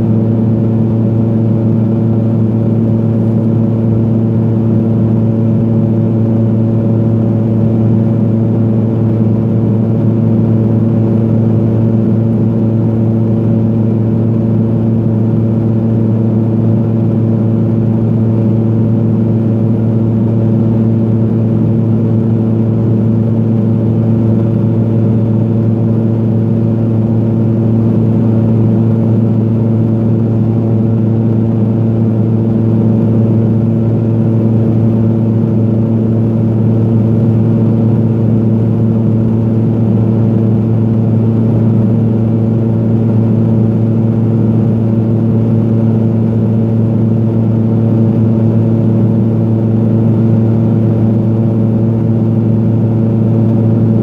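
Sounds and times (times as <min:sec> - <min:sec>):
turboprop cabin drone: 0:00.0 - 0:54.0.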